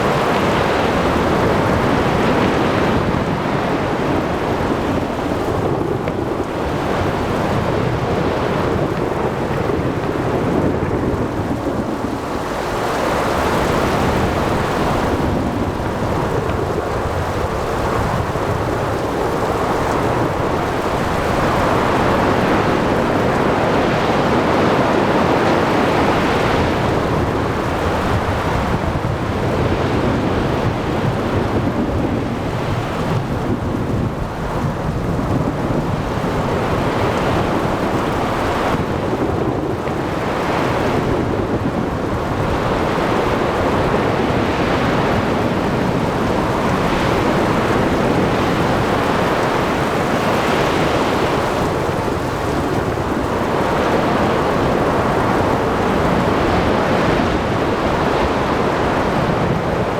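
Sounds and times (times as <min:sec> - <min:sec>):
heavy rain: 0:00.0 - 0:59.9
waves splashing: 0:00.0 - 0:59.9
wind blowing: 0:00.0 - 0:59.9.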